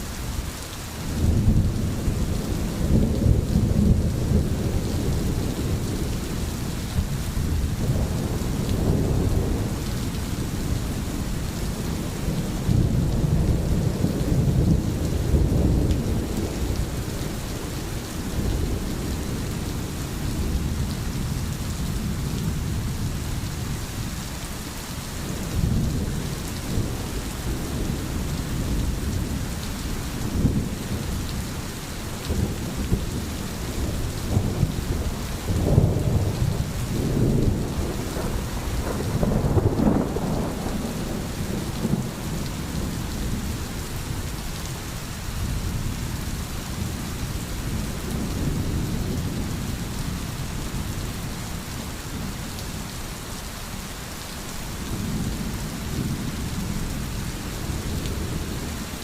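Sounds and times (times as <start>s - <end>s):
steady rain: 0.0s - 59.0s
low rolling thunder: 1.0s - 24.0s, 25.2s - 44.8s, 45.4s - 52.9s, 54.8s - 59.0s.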